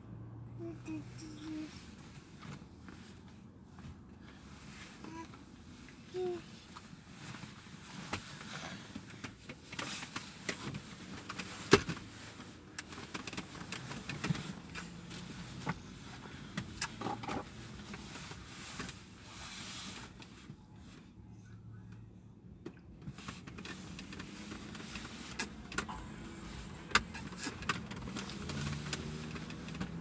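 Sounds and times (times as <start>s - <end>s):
car interior rumble: 0.0s - 30.0s
traffic passing outside: 0.0s - 30.0s.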